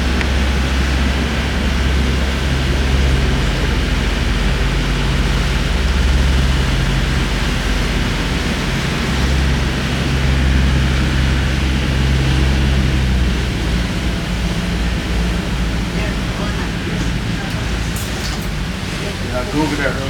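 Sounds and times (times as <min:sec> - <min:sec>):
boat engine droning: 0:00.0 - 0:20.0
wind and water hiss: 0:00.0 - 0:20.0.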